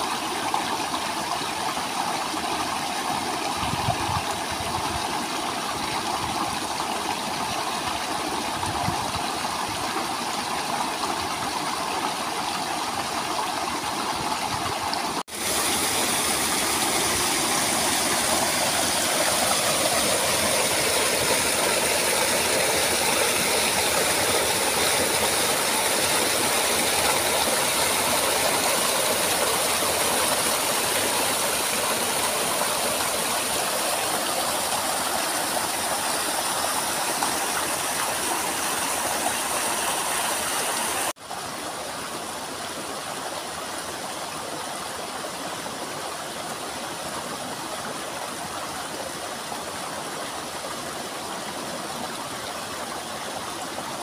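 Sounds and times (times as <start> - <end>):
waterfall splashing over rocks: 0.0 - 54.0.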